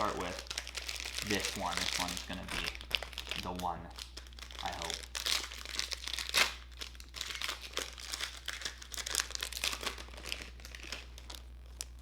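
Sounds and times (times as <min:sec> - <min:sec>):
plastic wrapper crinkling: 0:00.0 - 0:12.0
plastic wrapper ripping: 0:00.0 - 0:12.0.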